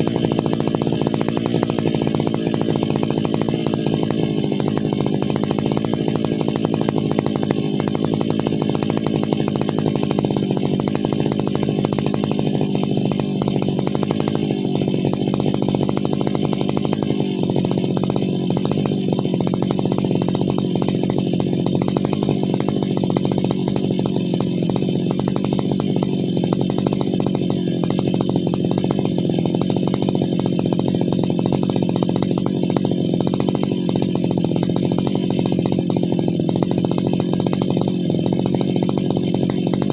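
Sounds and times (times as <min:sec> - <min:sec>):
brushcutter engine running: 0:00.0 - 0:39.9.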